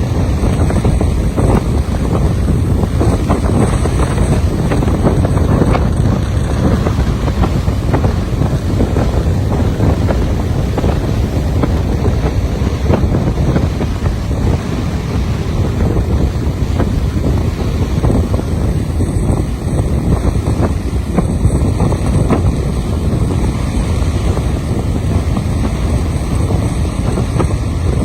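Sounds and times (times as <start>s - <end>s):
rough sea surf: 0.0s - 28.0s
wind buffeting microphone: 0.0s - 28.0s.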